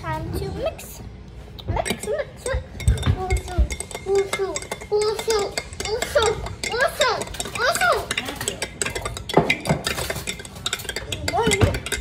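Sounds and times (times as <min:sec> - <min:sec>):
spoon clinking in glass cup: 0:01.9 - 0:12.0.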